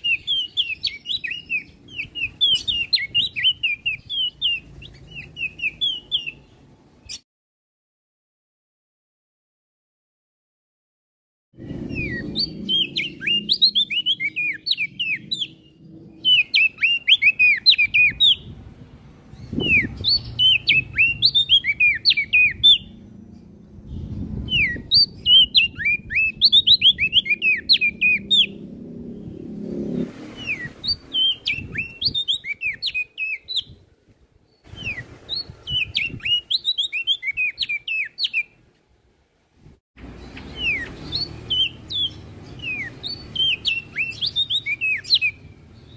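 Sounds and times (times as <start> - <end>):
songbird singing sharp chirps: 0.0 - 7.2, 11.6 - 38.6, 40.0 - 45.9.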